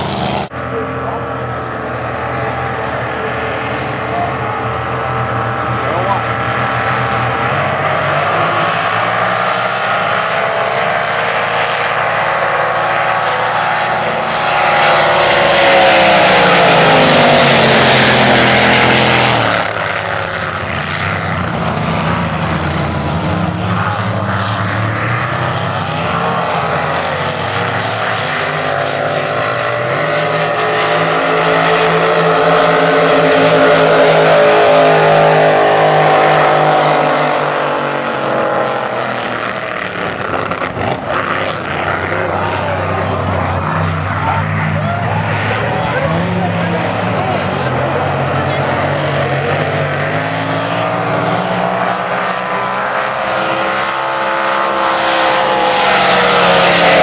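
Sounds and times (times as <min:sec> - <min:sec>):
race boat engines at full throttle: 0:00.0 - 0:57.0.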